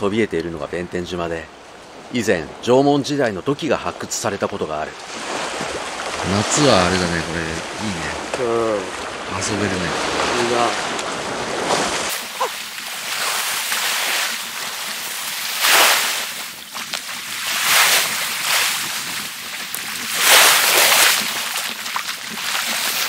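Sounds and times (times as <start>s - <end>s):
waves washing onto rocky shore: 1.7s - 23.0s.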